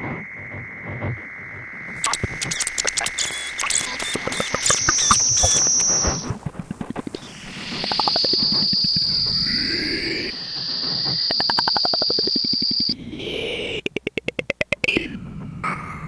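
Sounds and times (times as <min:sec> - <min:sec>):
high steady whine: 0:00.0 - 0:16.0.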